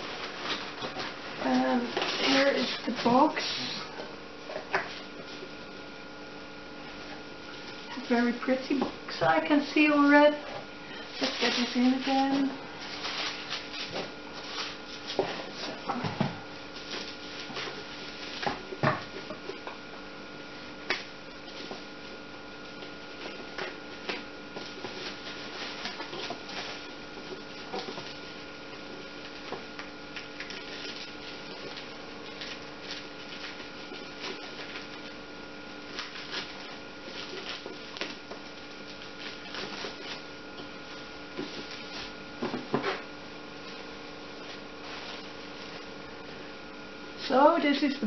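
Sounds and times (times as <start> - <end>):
bubble wrap crinkling: 0.0 - 3.9, 4.5 - 48.0
electrical hum: 0.0 - 48.0.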